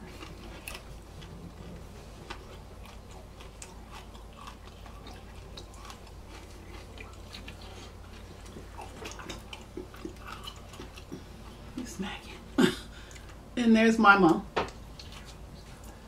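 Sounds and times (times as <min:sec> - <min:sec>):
person chewing with lip-smacking: 0:00.0 - 0:13.5, 0:14.6 - 0:16.0
low steady hum: 0:00.0 - 0:16.0.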